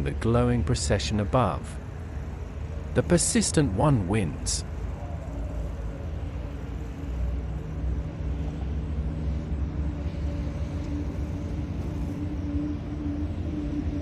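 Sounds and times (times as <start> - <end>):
kite hummers droning: 0.0 - 14.0
low wind rumble: 0.0 - 14.0.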